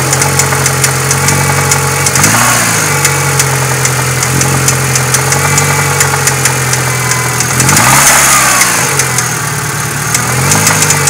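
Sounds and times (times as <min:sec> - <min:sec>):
engine idling with knocking: 0:00.0 - 0:11.0.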